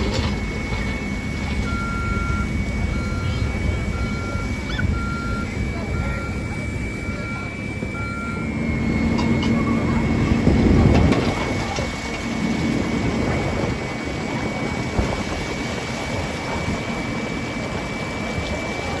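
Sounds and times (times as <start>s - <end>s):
backhoe loader running: 0.0s - 19.0s.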